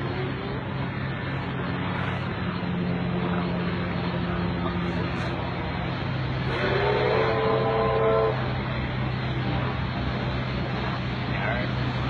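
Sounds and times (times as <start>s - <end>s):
low engine hum: 0.0s - 12.0s
wash of noise: 0.0s - 12.0s.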